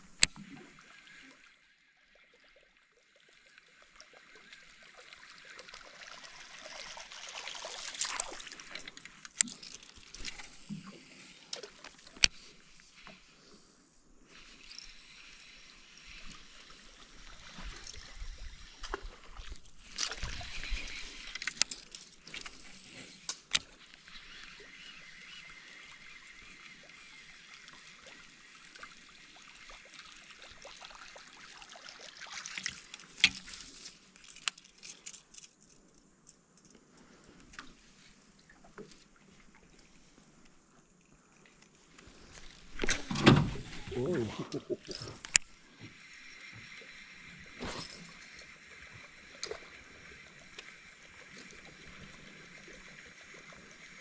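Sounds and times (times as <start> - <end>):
water sloshing and trickling: 0.0 - 13.4, 14.2 - 54.0.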